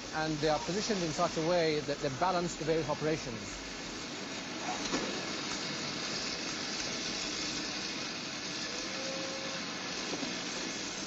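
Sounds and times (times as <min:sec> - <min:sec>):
assembly line hiss: 0:00.0 - 0:11.0
machine whine: 0:00.0 - 0:11.0.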